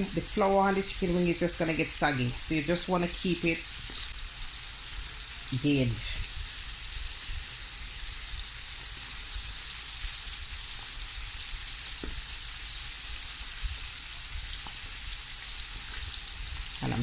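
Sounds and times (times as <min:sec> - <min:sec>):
chicken deep-frying in hot oil: 0:00.0 - 0:17.0.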